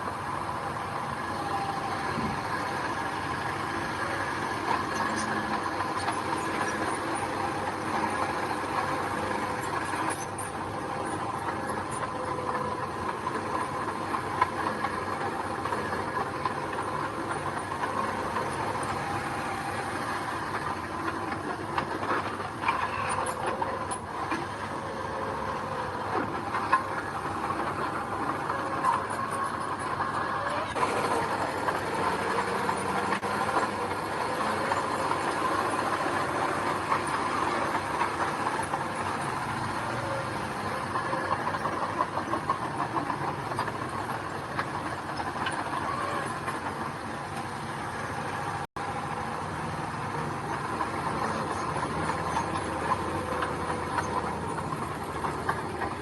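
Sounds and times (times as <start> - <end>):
bulldozer engine drone: 0.0 - 56.0
steel tracks clattering: 0.0 - 56.0.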